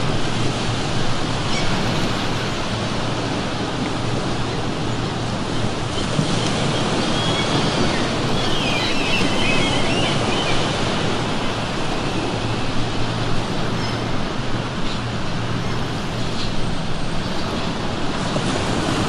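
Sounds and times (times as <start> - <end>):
gulls crying: 0.0 - 19.0
ocean surf washing: 0.0 - 19.0.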